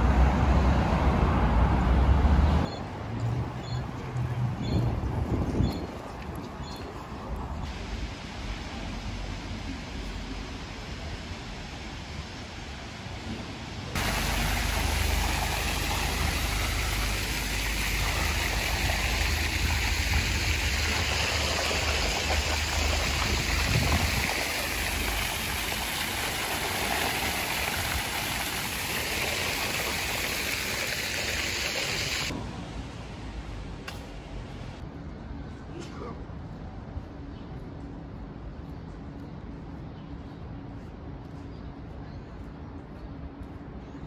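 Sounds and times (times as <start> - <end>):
street noise hiss: 0.0 - 44.0.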